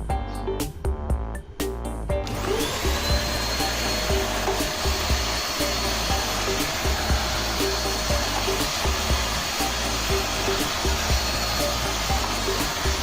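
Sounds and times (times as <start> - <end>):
vacuum cleaner motor whine: 2.2 - 13.0.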